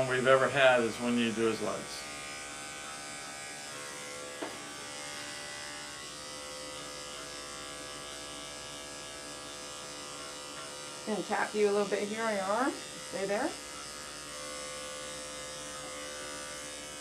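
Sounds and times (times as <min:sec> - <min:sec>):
electric clippers humming: 0:00.0 - 0:17.0.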